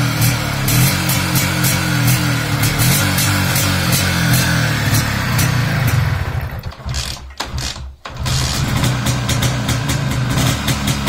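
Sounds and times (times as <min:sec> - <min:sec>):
two-stroke engine starting and idling: 0:00.0 - 0:11.0.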